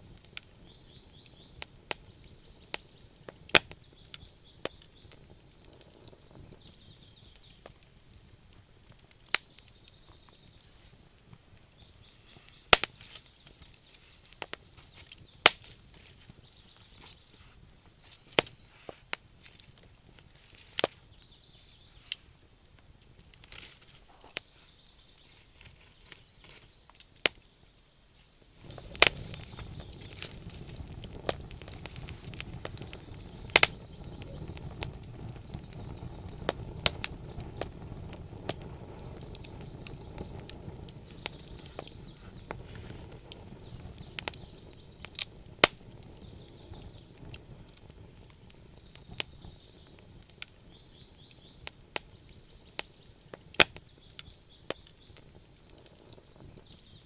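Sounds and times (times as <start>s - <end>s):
low rush of flames: 0.0s - 27.4s, 28.4s - 57.0s
wood fire crackling and popping: 0.0s - 57.0s.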